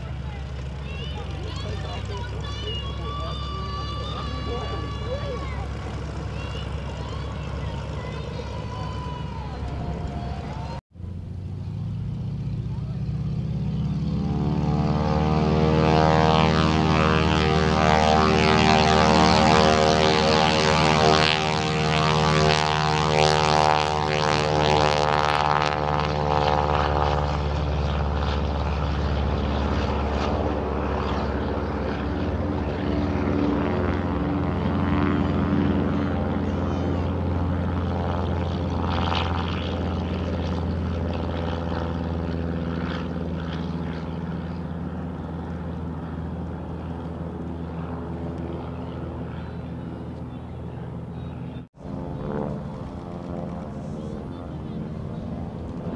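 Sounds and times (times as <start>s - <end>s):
propeller airplane engine drone: 0.0s - 55.9s.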